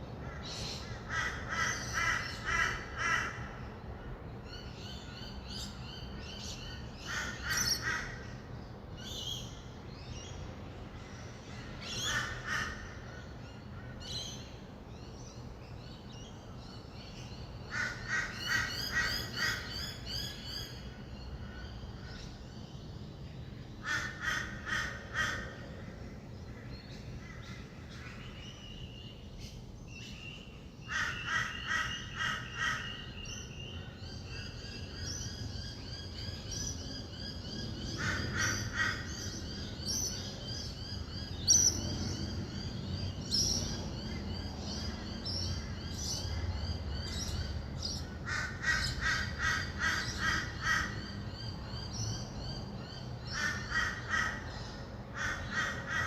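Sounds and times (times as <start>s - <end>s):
distant traffic hum: 0.0s - 56.0s
harsh bird calls: 0.1s - 23.0s, 23.7s - 56.0s.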